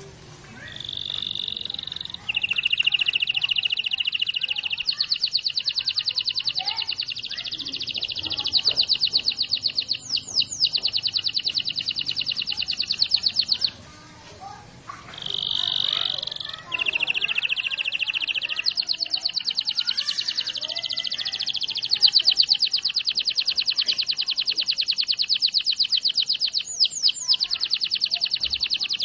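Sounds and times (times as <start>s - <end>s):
canary singing trills: 0.5s - 29.0s.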